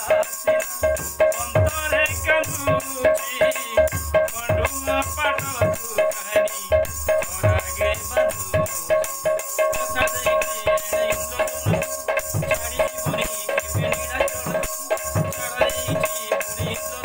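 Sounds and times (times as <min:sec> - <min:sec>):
small high-pitched percussion: 0:00.0 - 0:17.0.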